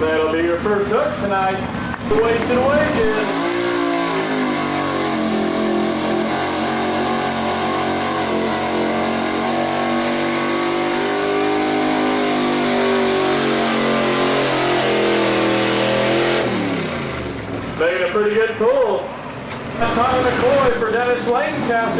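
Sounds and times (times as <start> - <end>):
truck engine at high revs: 0.0 - 21.9.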